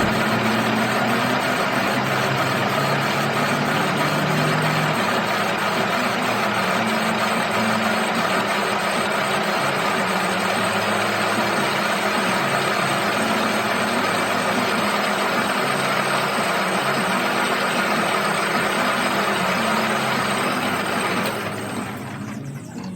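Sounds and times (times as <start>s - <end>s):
metal lathe running: 0.0s - 22.9s.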